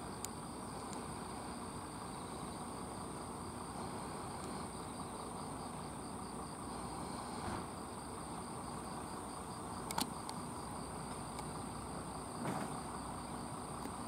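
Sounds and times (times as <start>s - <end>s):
distant railcar rumble: 0.0s - 14.0s
faint pulsing chirp: 0.0s - 14.0s
insects trilling: 0.0s - 14.0s.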